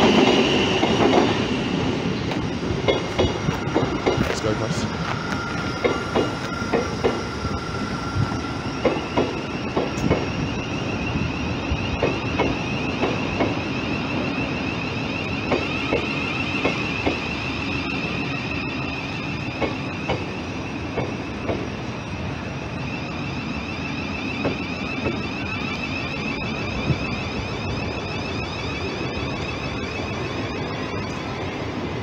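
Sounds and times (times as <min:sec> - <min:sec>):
high electric whine: 0:01.3 - 0:32.0.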